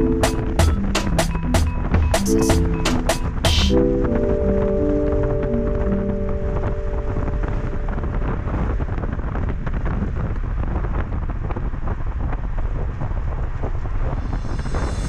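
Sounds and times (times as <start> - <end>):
road and wind rumble: 0.0 - 15.0.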